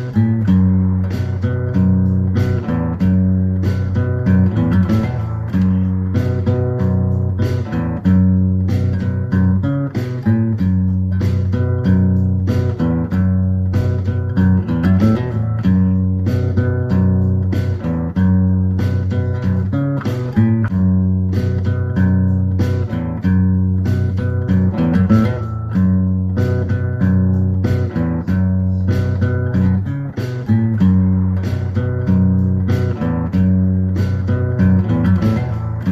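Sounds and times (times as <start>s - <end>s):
bass line: 0.0s - 35.9s
regular beat: 0.0s - 35.9s
strummed guitar: 0.0s - 35.9s.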